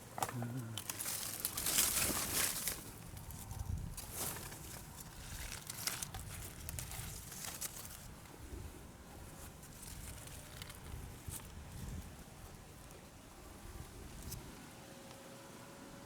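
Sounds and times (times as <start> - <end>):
rustling and crackling: 0.0 - 13.1.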